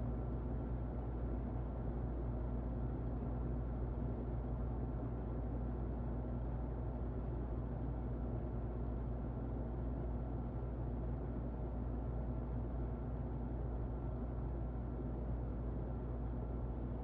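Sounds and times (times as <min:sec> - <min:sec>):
muffled electric fan running: 0:00.0 - 0:17.0.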